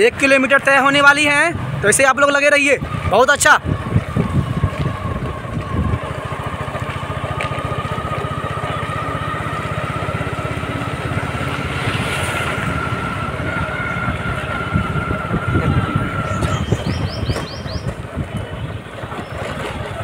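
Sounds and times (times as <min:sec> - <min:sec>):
small engine running: 0:01.8 - 0:20.0.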